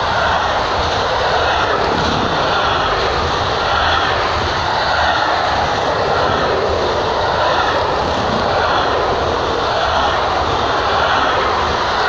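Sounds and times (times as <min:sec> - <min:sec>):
freight train wheels on rail: 0:00.0 - 0:12.0.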